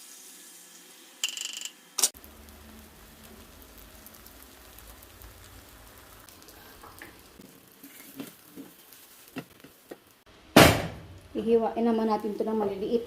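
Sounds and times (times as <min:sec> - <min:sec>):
egg sizzling in a pan: 0:00.0 - 0:13.0.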